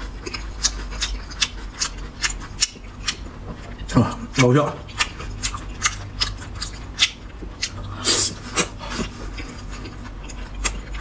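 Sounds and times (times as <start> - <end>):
wet chewing and lip smacking: 0.0 - 11.0.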